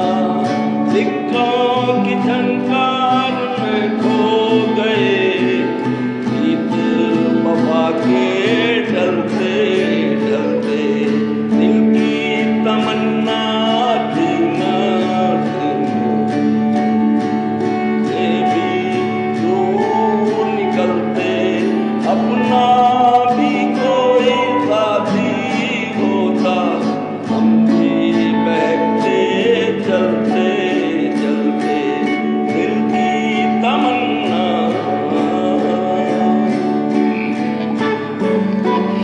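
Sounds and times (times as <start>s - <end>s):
acoustic guitar strumming: 0.0s - 39.0s
person singing: 0.0s - 39.0s.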